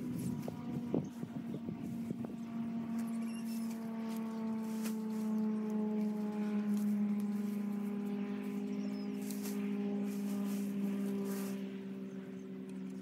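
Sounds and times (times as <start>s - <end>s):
distant motor droning: 0.0s - 13.0s.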